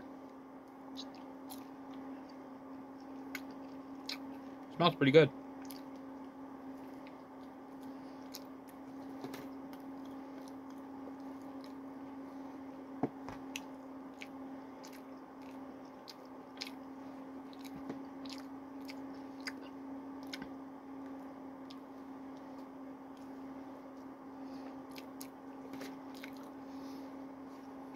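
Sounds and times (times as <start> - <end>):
steady low hum: 0.0 - 27.9
man chewing food: 0.2 - 4.7, 5.5 - 27.0.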